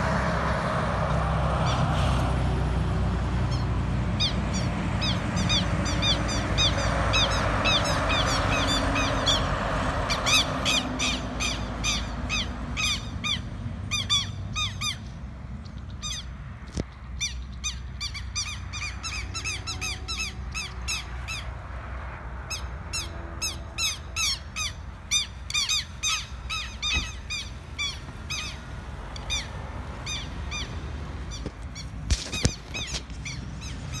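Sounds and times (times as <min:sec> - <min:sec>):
birds shrill alarm calls: 0:03.5 - 0:16.4, 0:17.2 - 0:21.6, 0:22.5 - 0:34.0.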